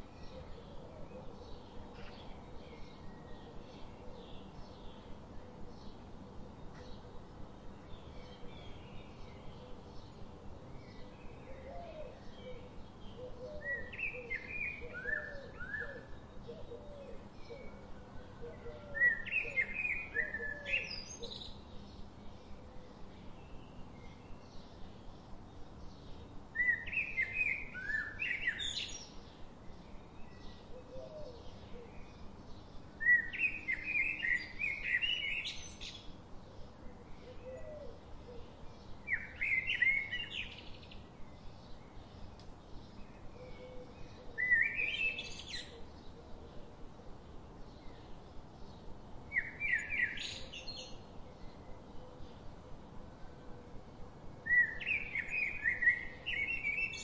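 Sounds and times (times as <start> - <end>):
low repeated bird calls: 0.0 - 57.0
steady background hiss: 0.0 - 57.0
songbird warbling and chirping: 7.8 - 46.7, 47.6 - 53.0, 54.4 - 57.0.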